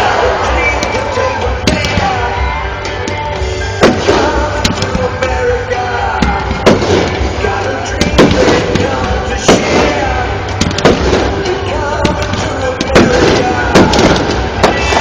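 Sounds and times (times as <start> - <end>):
fireworks bangs: 0.0 - 15.0
fireworks crackling: 0.0 - 15.0
music playing: 0.0 - 15.0.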